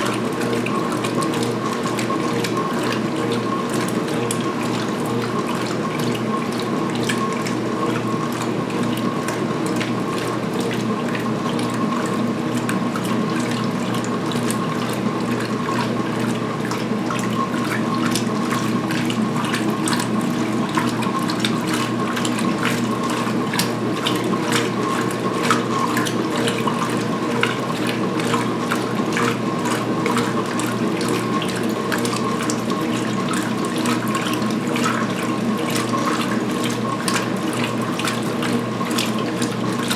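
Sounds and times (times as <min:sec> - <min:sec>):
washing machine motor hum: 0:00.0 - 0:39.9
water sloshing in tub: 0:00.0 - 0:39.9.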